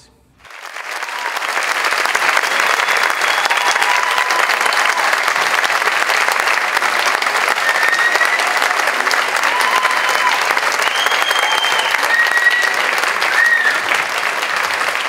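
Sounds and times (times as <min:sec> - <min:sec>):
audience applause: 0:00.4 - 0:15.0.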